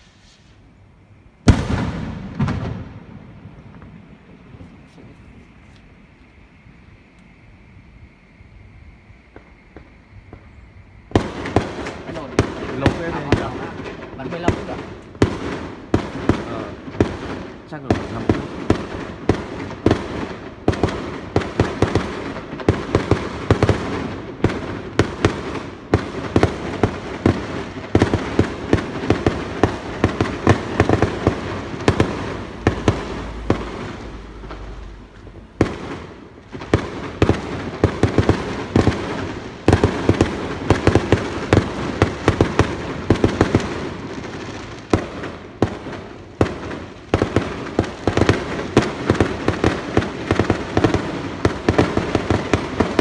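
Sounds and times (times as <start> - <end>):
fireworks banging: 0.0 - 6.4, 9.1 - 53.0
fireworks crackling: 0.0 - 53.0.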